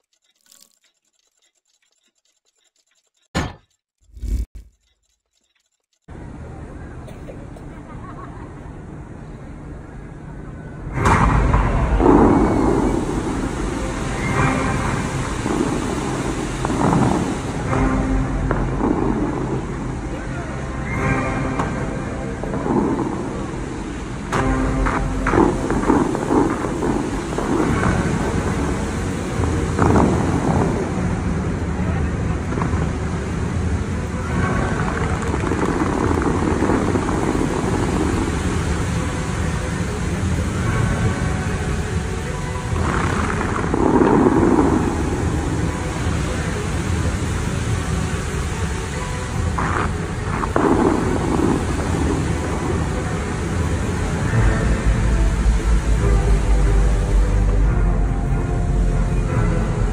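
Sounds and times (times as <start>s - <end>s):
low rumble: 6.0s - 59.9s
fountain water jets rushing: 9.7s - 59.9s.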